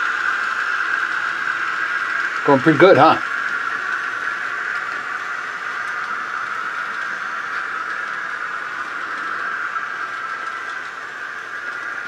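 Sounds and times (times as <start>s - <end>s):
model train running hiss: 0.0s - 12.0s.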